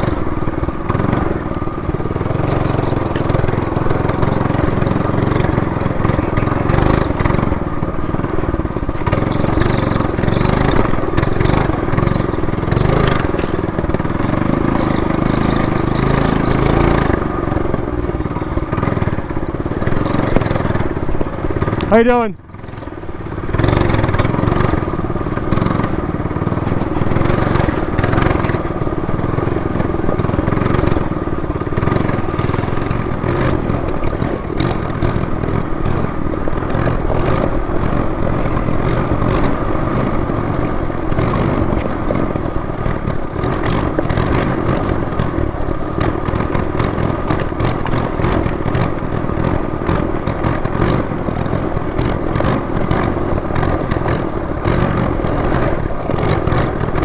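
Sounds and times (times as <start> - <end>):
minibike engine running: 0.0 - 57.0.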